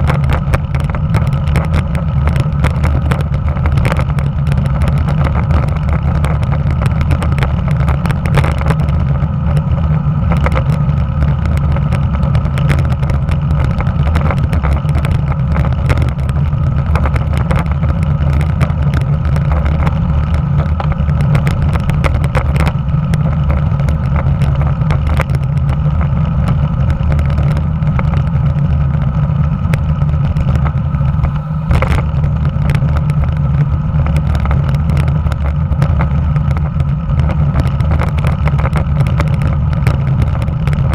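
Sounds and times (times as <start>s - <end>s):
bike knocks and rattles: 0.0s - 40.9s
tyre and road noise: 0.0s - 40.9s
wind rushing over microphone: 0.0s - 40.9s.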